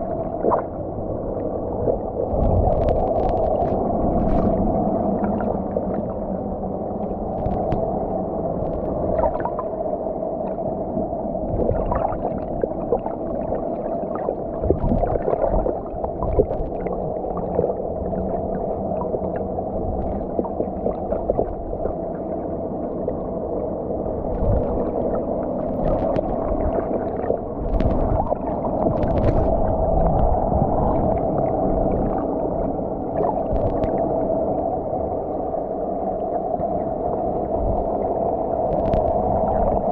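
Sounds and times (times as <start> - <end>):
droning hum: 0.0 - 39.9
muffled underwater rumble: 0.0 - 39.9
faint clicks and crackles: 0.2 - 6.3, 6.9 - 22.1, 24.3 - 34.3, 38.6 - 39.9.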